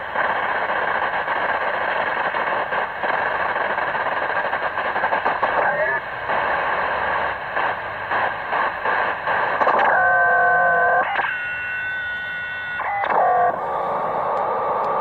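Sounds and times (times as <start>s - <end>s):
radio static hiss: 0.0s - 15.0s
radio whistling tones: 1.1s - 15.0s.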